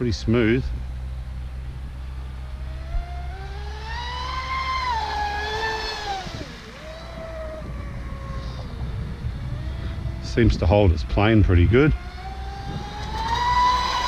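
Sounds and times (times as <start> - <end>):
low rumble: 0.0 - 14.0
electric motor whining: 0.7 - 14.0.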